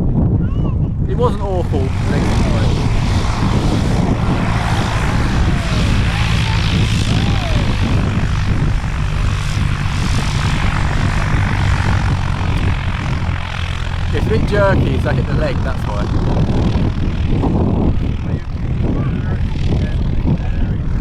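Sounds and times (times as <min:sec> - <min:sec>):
light aircraft engine droning: 0:00.1 - 0:21.0.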